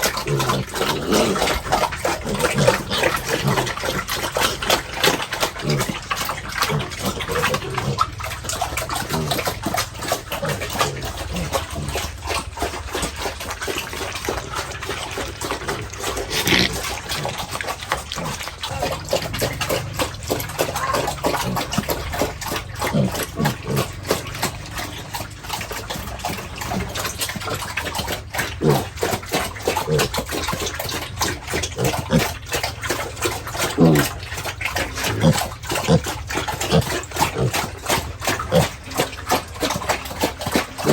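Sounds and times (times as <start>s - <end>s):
pigs chewing wet feed: 0.0s - 40.9s
pigs grunting: 0.0s - 40.9s.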